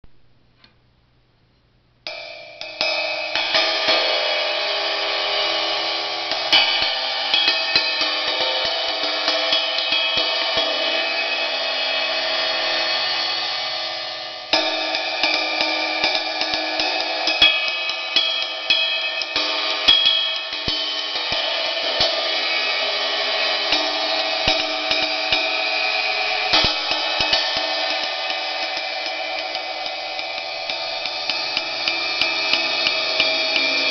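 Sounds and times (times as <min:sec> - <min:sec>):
sizzle cymbal struck with drumstick: 0:02.1 - 0:33.9.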